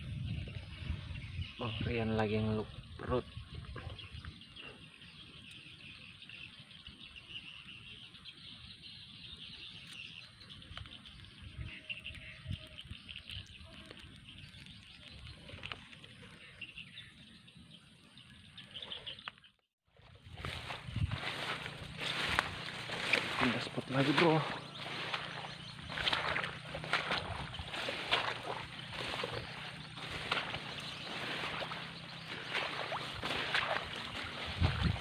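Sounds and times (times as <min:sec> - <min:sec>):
birds chirping: 0:00.0 - 0:19.7, 0:20.3 - 0:35.0.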